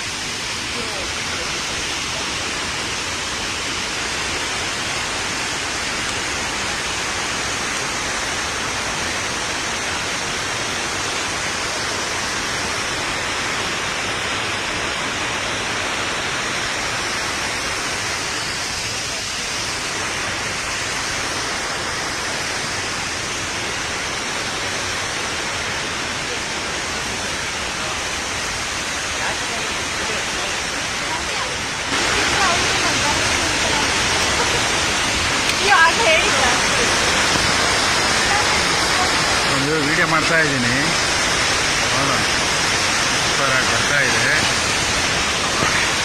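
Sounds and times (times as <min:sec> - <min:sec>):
waterfall roaring: 0:00.0 - 0:46.0.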